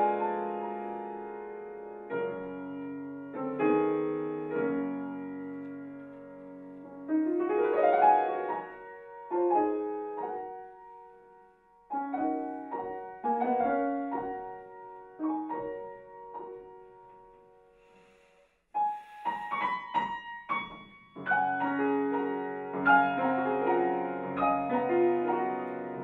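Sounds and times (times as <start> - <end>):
classical piano playing: 0.0 - 17.8, 18.8 - 26.0.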